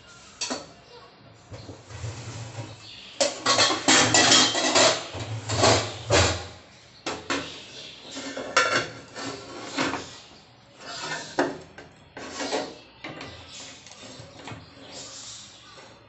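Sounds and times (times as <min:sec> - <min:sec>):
cookware clanking and scraping: 0:00.3 - 0:00.7, 0:01.8 - 0:10.2, 0:10.8 - 0:15.1.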